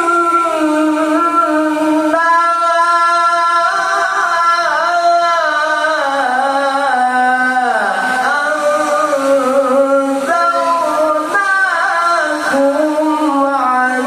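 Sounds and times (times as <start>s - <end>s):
person reciting in long ornamented notes: 0.0s - 14.0s.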